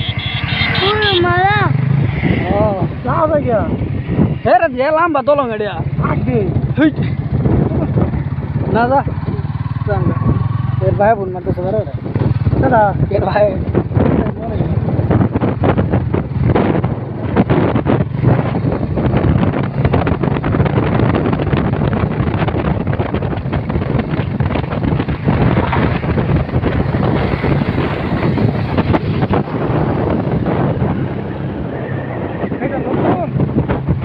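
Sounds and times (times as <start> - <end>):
motorcycle engines running: 0.0 - 34.0
road noise: 0.0 - 34.0
wind buffeting microphone: 0.0 - 34.0.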